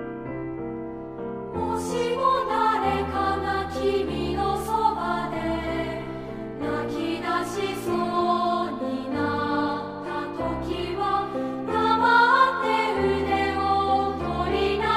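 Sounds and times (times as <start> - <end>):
choir singing a slow song: 1.5 - 14.9.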